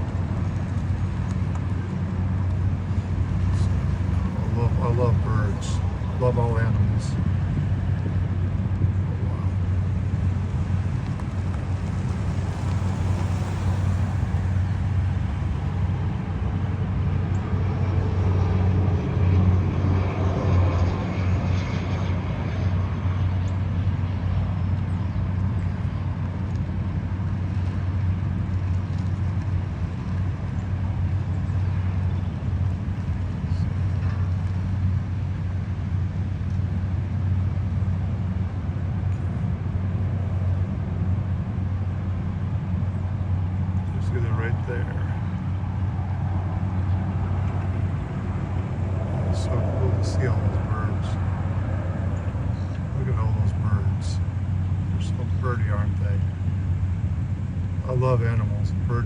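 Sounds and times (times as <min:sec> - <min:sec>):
low vehicle rumble: 0:00.0 - 0:59.0.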